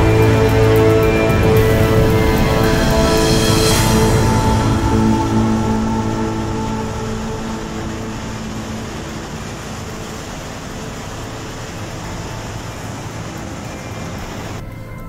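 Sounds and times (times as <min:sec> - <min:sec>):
background music: 0:00.0 - 0:15.0
floodwater rushing: 0:00.0 - 0:15.0.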